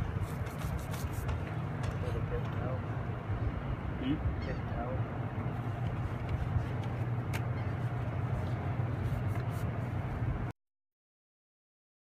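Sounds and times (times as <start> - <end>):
low machinery hum: 0.0 - 10.5.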